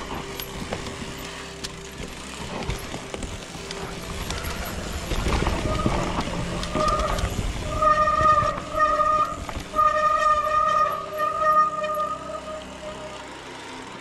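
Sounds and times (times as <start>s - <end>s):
bike tyres rumbling over dirt: 0.0s - 13.6s.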